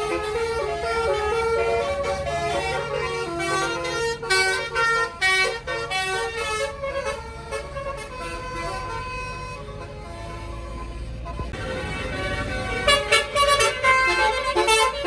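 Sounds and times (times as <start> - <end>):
bus engine running: 0.0 - 15.0
bus musical horn melody: 0.0 - 15.0.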